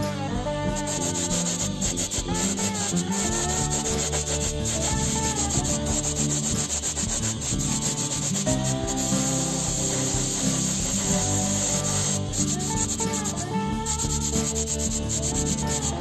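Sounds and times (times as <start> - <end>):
music with steady notes: 0.0 - 16.0
sandpaper rubbing: 0.8 - 16.0.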